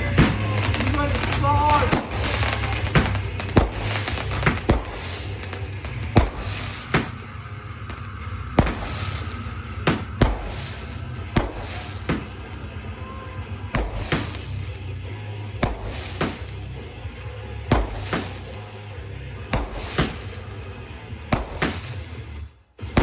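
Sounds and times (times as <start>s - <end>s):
firework bangs: 0.0s - 23.0s
firework crackling hiss: 0.0s - 23.0s.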